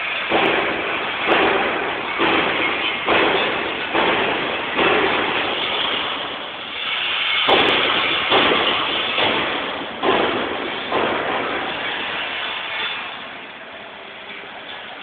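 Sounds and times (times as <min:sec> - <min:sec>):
loud workshop hiss: 0:00.0 - 0:15.0.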